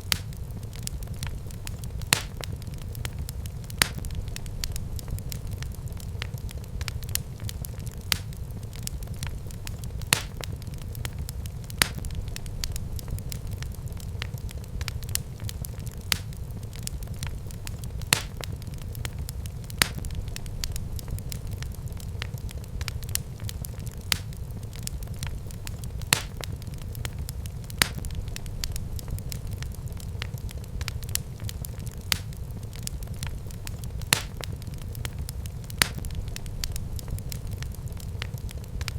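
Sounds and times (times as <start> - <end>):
fire crackles and pops: 0.0 - 38.9
fire flames rumbling: 0.0 - 38.9.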